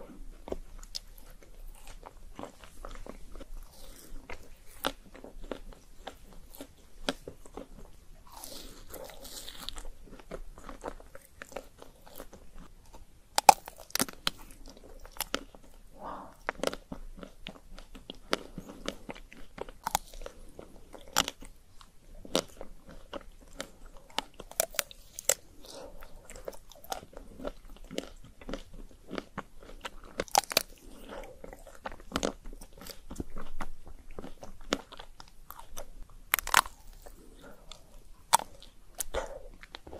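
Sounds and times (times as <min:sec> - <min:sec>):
chewing crunchy ice cream bar: 0:00.0 - 0:39.9.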